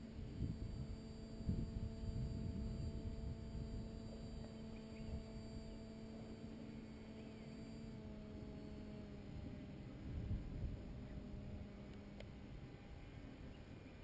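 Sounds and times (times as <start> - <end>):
wind rumble on microphone: 0.0 - 6.1, 7.9 - 14.0
distant paramotor engine droning: 0.0 - 14.0.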